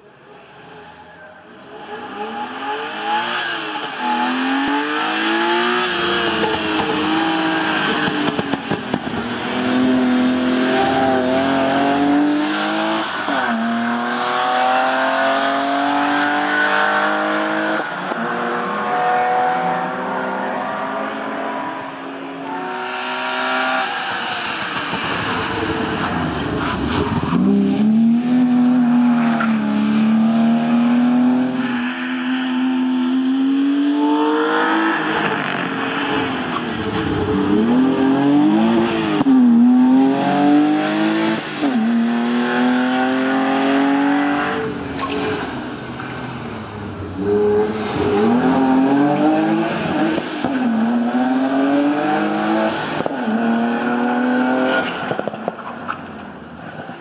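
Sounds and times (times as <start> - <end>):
car engine revving hard: 1.6 - 31.8, 32.5 - 55.6.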